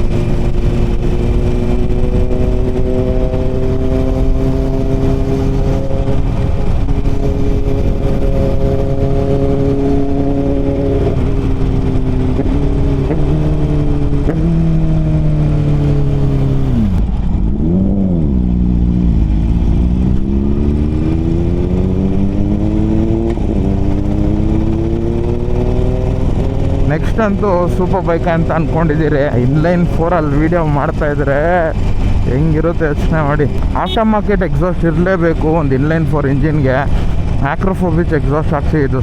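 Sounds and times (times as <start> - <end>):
motorcycle engine: 0.0 - 39.0
wind and road rush: 0.0 - 39.0.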